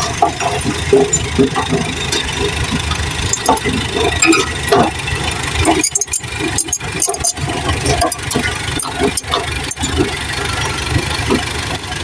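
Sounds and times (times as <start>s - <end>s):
engine running: 0.0s - 12.0s
sharp clicks and knocks: 0.0s - 12.0s.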